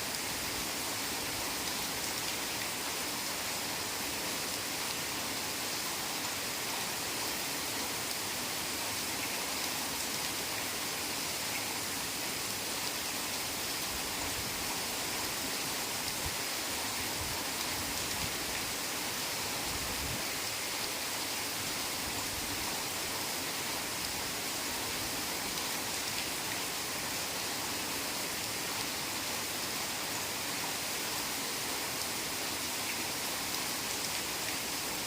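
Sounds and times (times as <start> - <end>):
heavy rain on foliage: 0.0 - 35.0.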